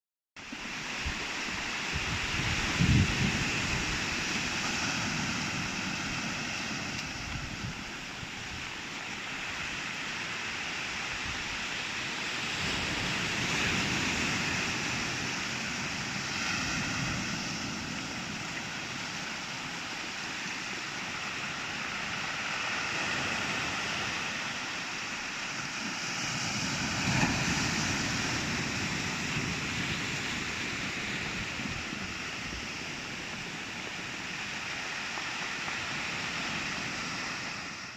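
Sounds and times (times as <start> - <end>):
wind noise on microphone: 0.4 - 24.6, 25.5 - 37.9
sea waves breaking on shore: 0.4 - 37.9.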